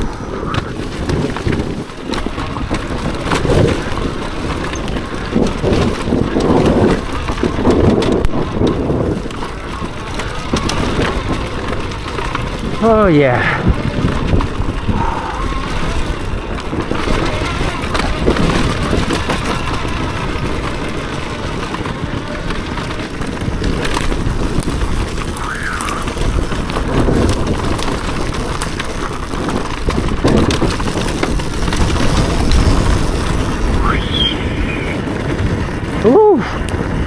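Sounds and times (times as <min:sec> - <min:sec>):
two-stroke dirt bike engine: 0:00.0 - 0:37.0
tyres and suspension rattling: 0:00.0 - 0:37.0.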